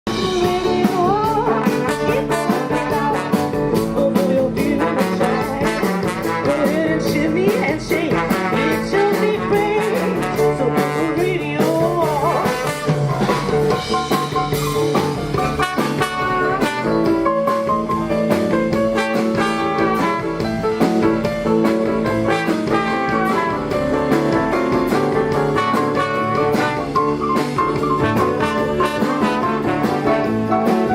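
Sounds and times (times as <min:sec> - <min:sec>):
live jazz band playing: 0:00.0 - 0:30.9.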